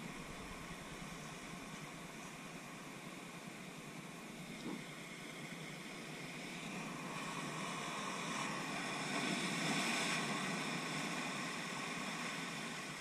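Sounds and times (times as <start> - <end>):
surf washing among rocks: 0.0 - 13.0.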